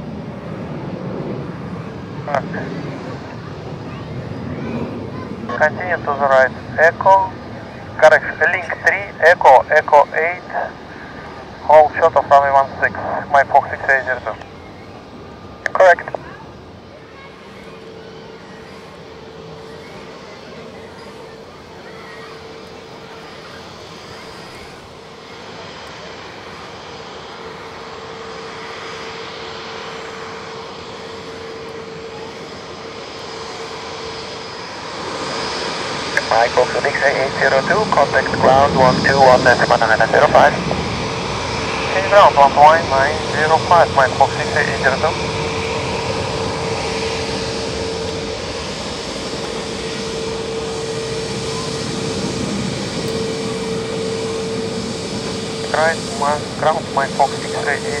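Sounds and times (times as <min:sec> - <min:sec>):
jet engines whining at taxi power: 0:00.0 - 0:58.0.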